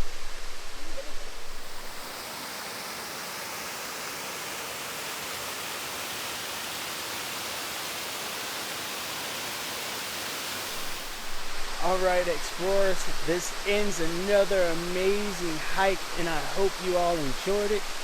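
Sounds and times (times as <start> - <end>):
waterfall rushing hiss: 0.0 - 18.0.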